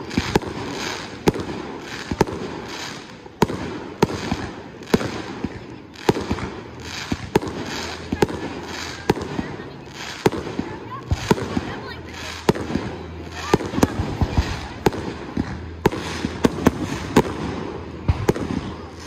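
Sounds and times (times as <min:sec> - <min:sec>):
fireworks bangs: 0:00.0 - 0:19.0
fireworks rumble: 0:00.0 - 0:19.0.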